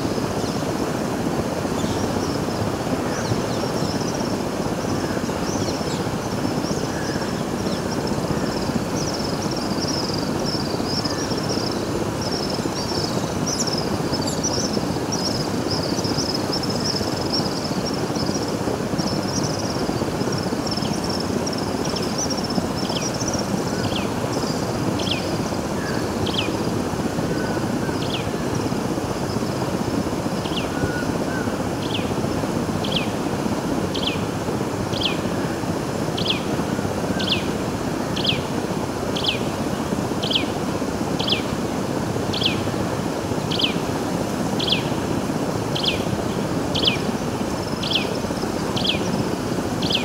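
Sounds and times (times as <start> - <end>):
steady rushing noise: 0.0 - 50.0.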